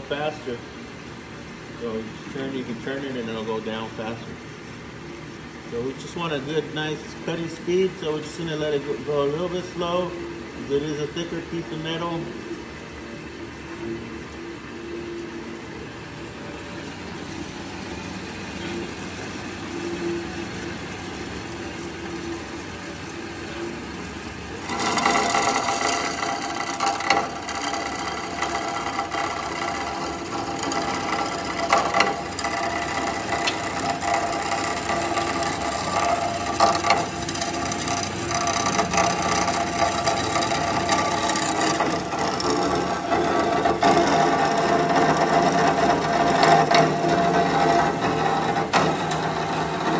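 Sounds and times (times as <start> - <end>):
band saw cutting metal: 6.0 - 12.6, 16.1 - 49.9.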